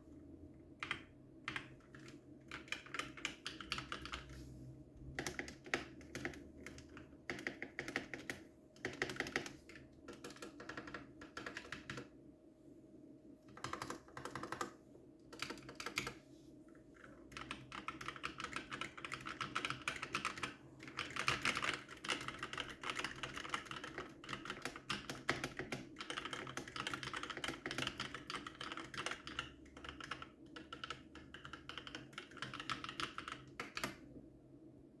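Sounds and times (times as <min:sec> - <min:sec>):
typing on mechanical keyboard: 0:00.8 - 0:04.3, 0:05.2 - 0:12.1, 0:13.5 - 0:16.2, 0:17.0 - 0:34.0.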